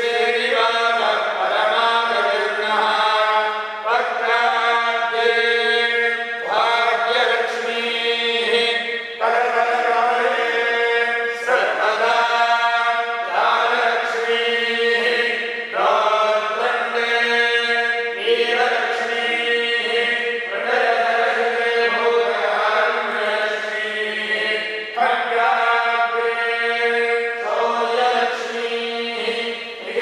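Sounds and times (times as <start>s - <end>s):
priests chanting: 0.0s - 30.0s.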